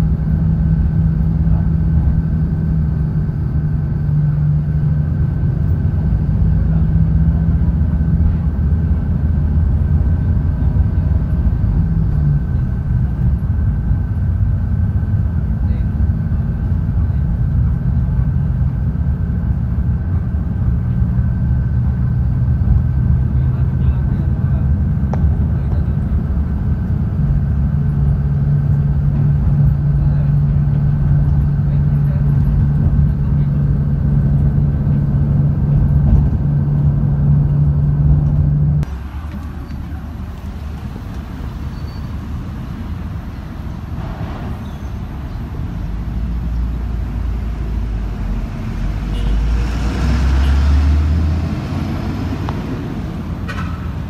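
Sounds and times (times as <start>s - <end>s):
bus engine droning: 0.0s - 54.0s
road traffic noise: 0.0s - 54.0s
vehicle passing: 0.0s - 54.0s.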